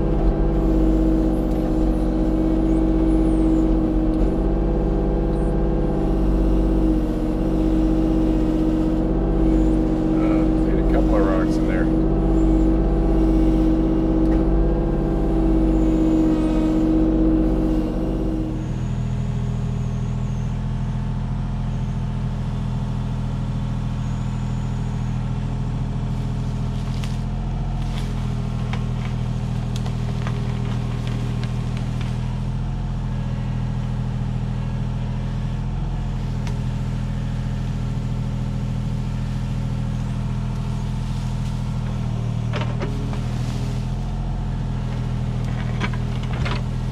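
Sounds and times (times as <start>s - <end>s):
excavator diesel engine whining: 0.0s - 46.9s.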